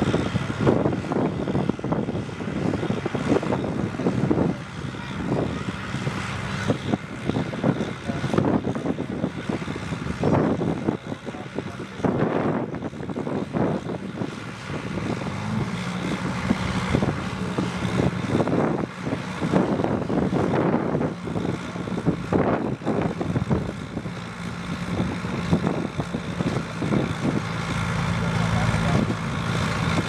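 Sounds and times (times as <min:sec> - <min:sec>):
tractor engine under load: 0:00.0 - 0:30.0.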